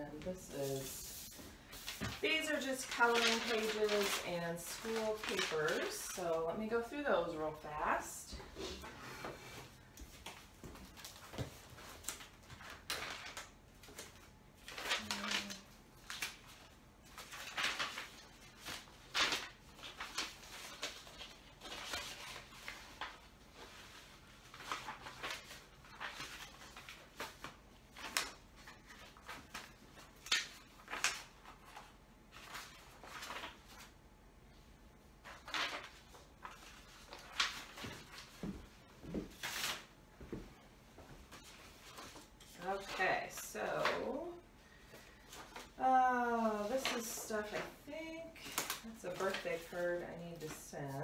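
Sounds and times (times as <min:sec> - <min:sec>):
paper rustling and shuffling: 0:00.1 - 0:34.0, 0:35.2 - 0:51.0.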